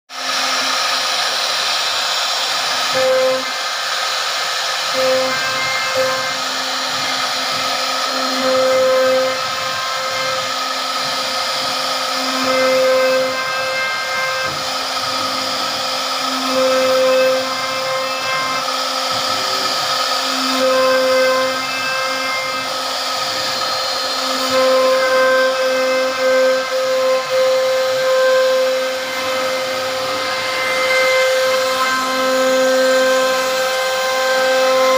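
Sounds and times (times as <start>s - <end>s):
router bit cutting wood: 0.1s - 34.9s
router spindle whining: 0.1s - 34.9s.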